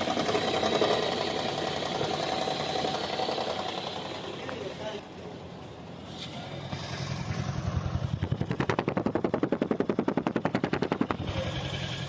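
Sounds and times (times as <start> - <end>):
car engine running rough: 0.0 - 5.0, 6.6 - 12.0
rapid engine clatter: 0.0 - 5.0, 6.6 - 12.0.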